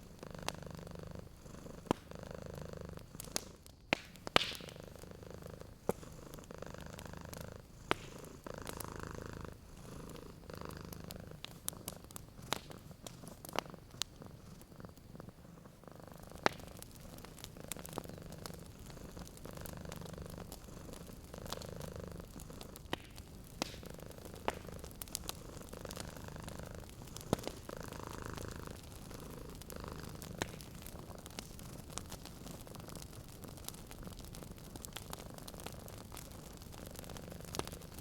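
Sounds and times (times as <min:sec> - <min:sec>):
cat purring: 0:00.0 - 0:38.0
fireplace fire popping and crackling: 0:00.0 - 0:38.0.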